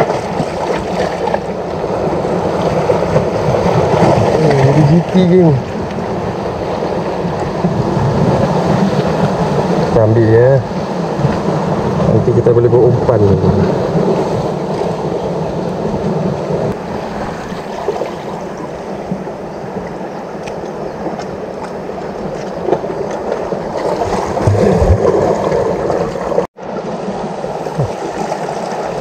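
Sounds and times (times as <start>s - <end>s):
seawater washing against rocks: 0.0s - 29.0s.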